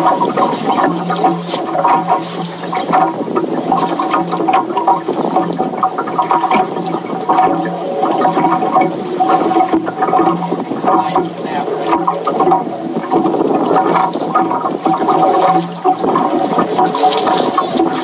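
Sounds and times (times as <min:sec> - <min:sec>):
water sloshing against hull: 0:00.0 - 0:18.0.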